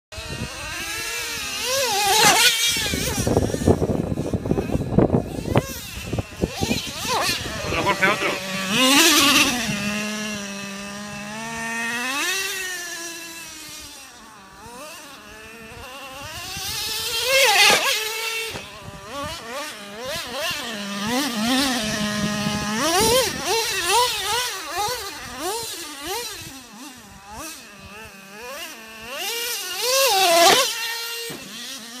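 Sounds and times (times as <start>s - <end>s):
model car nitro engine revving: 0.2s - 32.0s.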